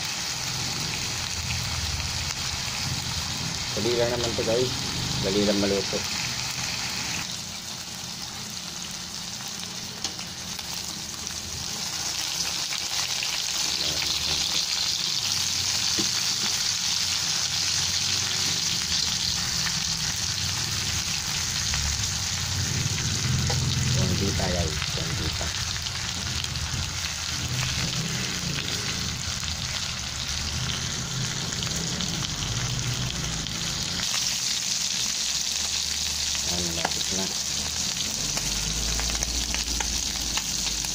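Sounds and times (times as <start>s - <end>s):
meat sizzling in hot oil: 0.0s - 40.9s.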